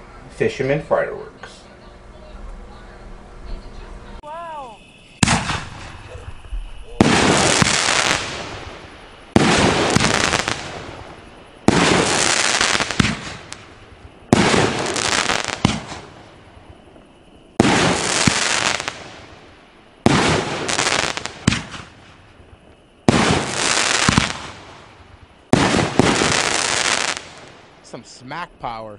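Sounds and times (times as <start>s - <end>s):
firework crackling: 1.2s - 28.8s
firework bangs: 3.7s - 28.5s.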